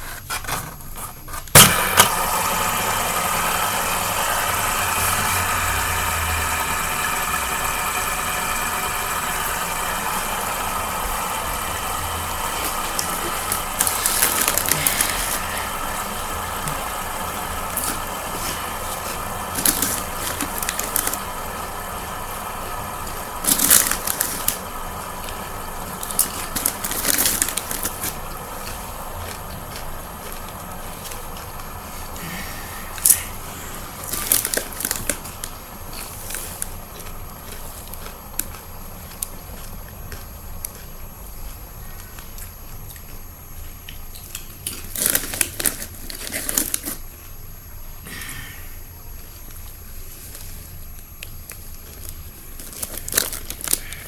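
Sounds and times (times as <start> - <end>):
crackling handling noise: 0.0 - 2.8, 9.2 - 32.2, 32.9 - 47.6, 49.1 - 54.0
low steady hum: 0.0 - 54.0.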